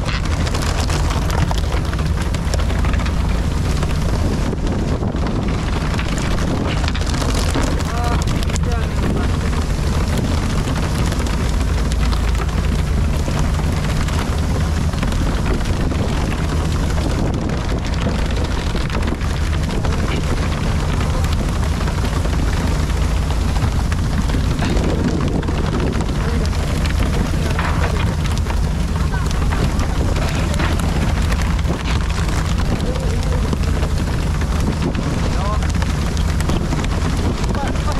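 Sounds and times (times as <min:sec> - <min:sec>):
boat engine drone: 0:00.0 - 0:37.9
wind on microphone: 0:00.0 - 0:37.9.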